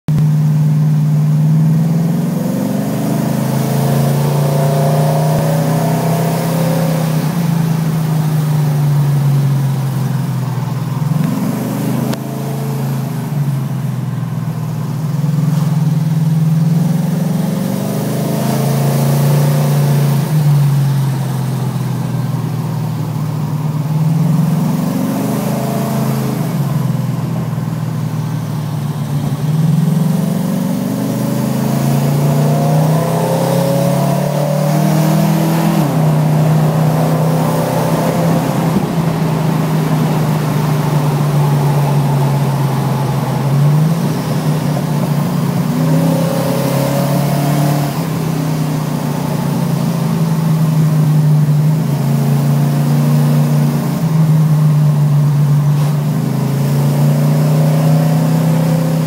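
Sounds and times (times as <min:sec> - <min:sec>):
car engine revving: 0:00.1 - 0:59.0.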